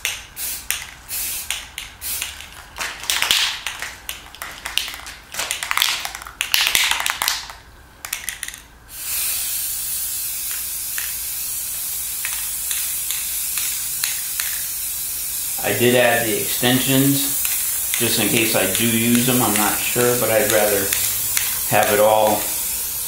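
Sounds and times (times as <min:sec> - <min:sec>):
aerosol can spraying: 0:00.0 - 0:07.5, 0:08.1 - 0:23.0
aerosol can rattling: 0:00.0 - 0:22.7.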